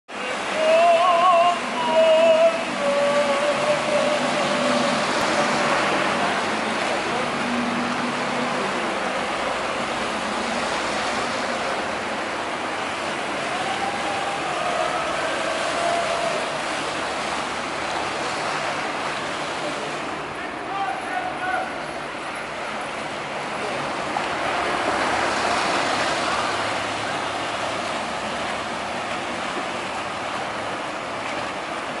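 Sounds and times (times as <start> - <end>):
water churned by motorboats: 0.1 - 32.0.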